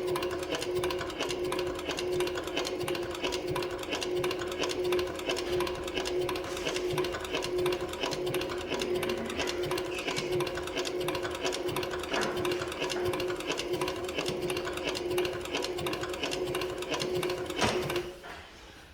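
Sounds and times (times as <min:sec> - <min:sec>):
sewing machine motor hum: 0:00.0 - 0:18.6.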